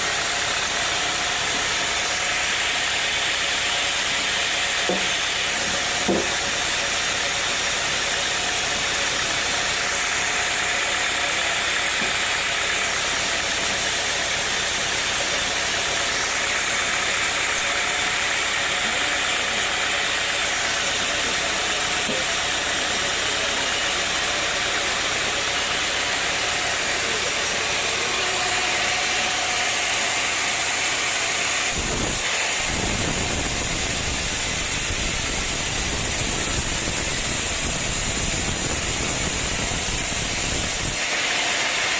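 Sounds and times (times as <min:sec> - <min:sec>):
sawmill machinery hissing: 0:00.0 - 0:41.9.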